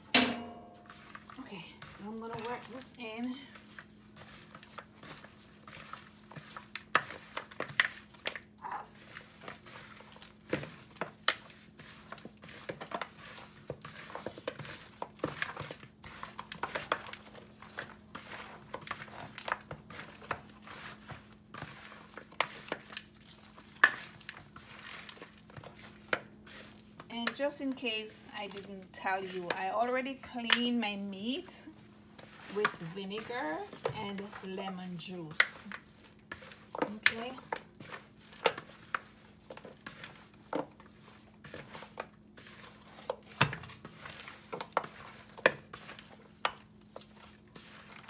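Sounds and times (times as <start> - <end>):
plastic glove crinkling: 0.8 - 48.0.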